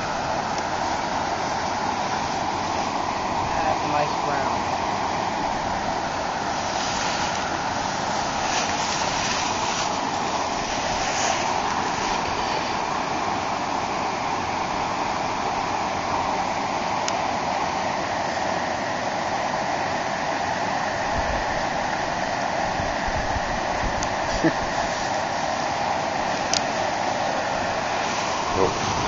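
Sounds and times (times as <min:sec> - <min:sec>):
river water rushing over a weir: 0:00.0 - 0:29.0.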